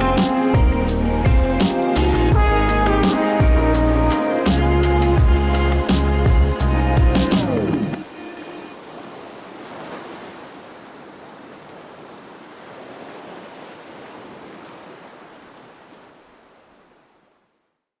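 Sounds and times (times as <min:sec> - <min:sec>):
sea waves washing: 0:01.6 - 0:17.6.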